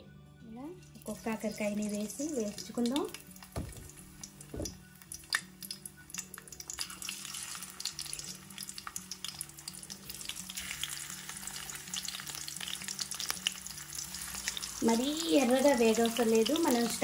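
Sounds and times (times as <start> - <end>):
sharp crackle of oil: 0.9 - 17.0
vegetables sizzling in hot oil: 0.9 - 17.0.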